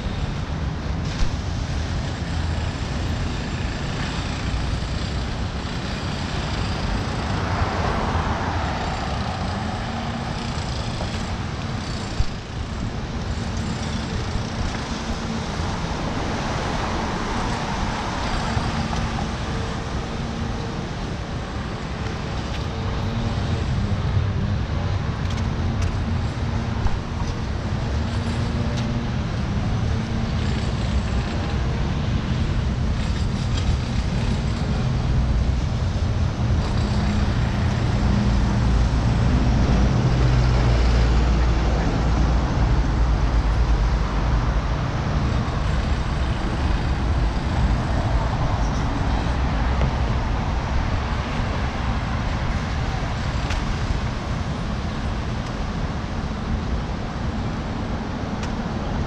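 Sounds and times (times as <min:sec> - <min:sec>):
cars passing: 0:00.0 - 0:59.0
low traffic rumble: 0:00.0 - 0:59.0.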